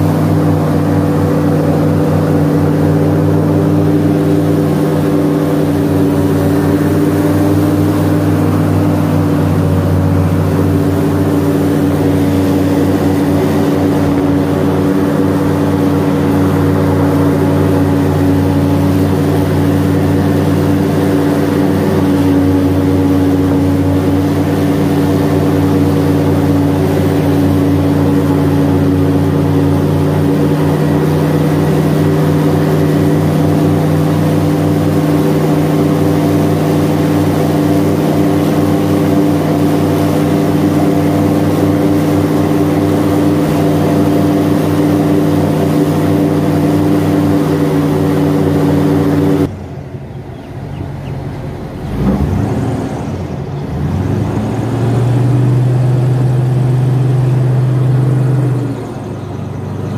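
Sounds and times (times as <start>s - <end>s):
airboat engine and propeller drone: 0.0s - 59.9s.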